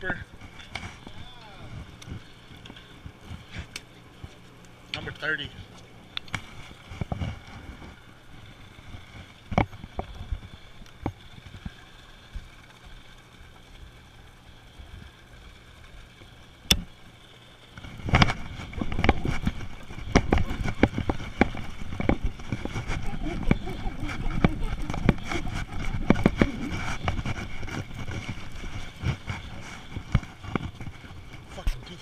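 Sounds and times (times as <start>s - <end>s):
faint steady hum: 0.0s - 32.0s
irregular rumbling noise: 0.0s - 32.0s.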